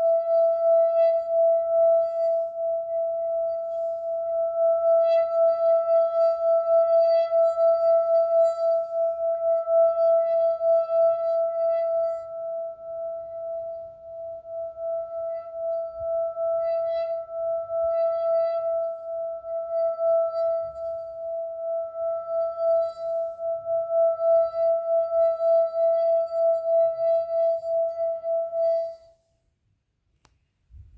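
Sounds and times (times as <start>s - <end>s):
sustained ringing tone: 0.0s - 29.0s.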